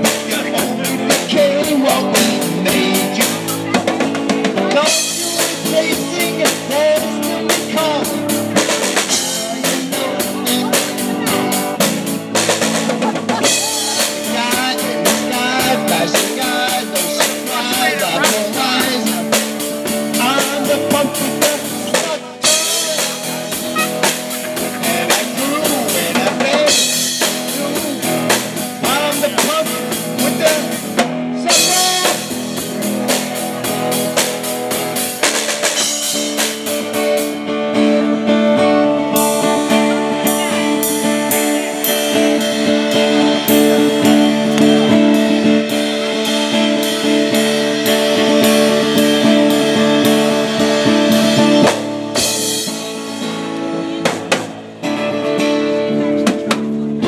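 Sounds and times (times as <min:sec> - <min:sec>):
drum kit: 0:00.0 - 0:57.0
guitar: 0:00.0 - 0:57.0
rock band playing: 0:00.0 - 0:57.0.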